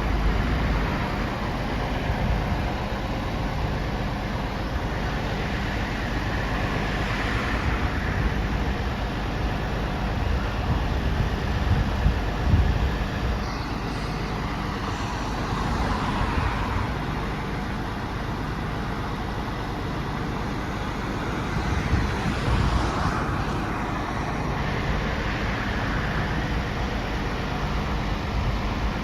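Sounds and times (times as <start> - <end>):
broad rushing noise: 0.0 - 29.0
truck engine running: 0.0 - 29.0.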